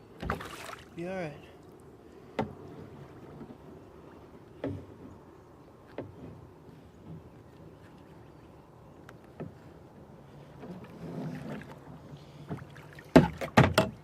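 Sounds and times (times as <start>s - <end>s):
knocks and shuffling in a kayak: 0.0s - 14.0s.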